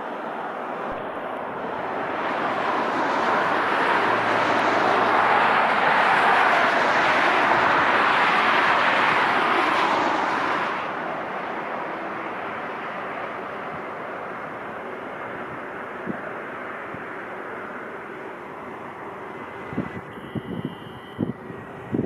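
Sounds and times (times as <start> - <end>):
jet airliner engine roar: 0.0 - 22.0.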